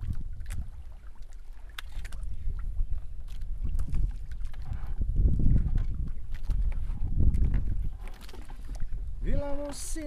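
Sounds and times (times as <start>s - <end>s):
water lapping around boat: 0.0s - 10.0s
wind rumbling on microphone: 0.0s - 10.0s.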